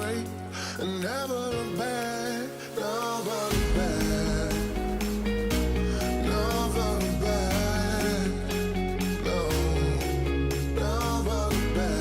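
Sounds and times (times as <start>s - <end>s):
song with sung melody: 0.0s - 12.0s.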